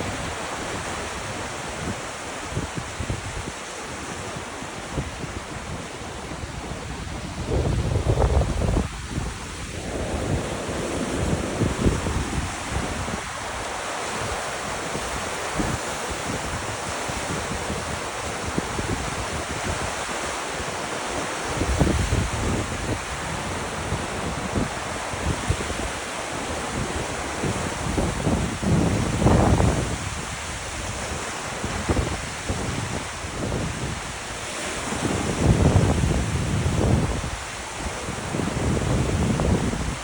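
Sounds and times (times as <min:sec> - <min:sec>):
river water rushing: 0:00.0 - 0:40.0
wind buffeting the microphone: 0:00.0 - 0:40.0.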